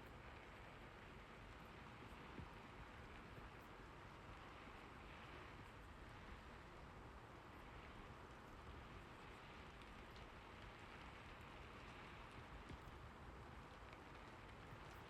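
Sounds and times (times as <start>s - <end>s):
faint steady rain: 0.0s - 15.0s
light raindrop ticks: 0.0s - 15.0s.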